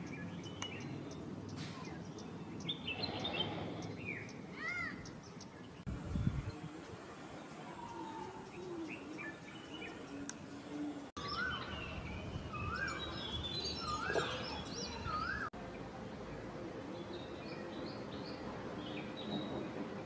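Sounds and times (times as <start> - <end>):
birds chirping: 0.0 - 20.0
outdoor background noise: 0.0 - 20.0.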